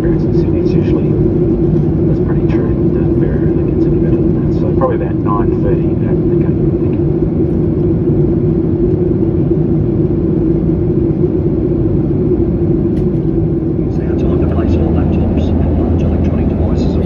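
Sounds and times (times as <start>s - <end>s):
airplane cabin engine rumble: 0.0s - 17.0s
constant mid-pitched hum: 0.0s - 17.0s.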